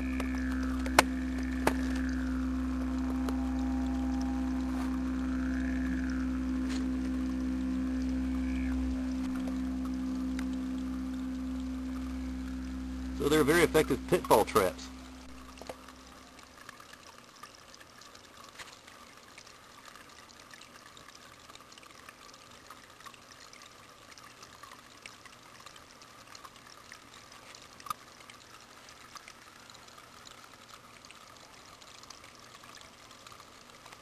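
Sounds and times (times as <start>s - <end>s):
running water trickling: 0.0s - 34.0s
small ticks: 0.0s - 34.0s.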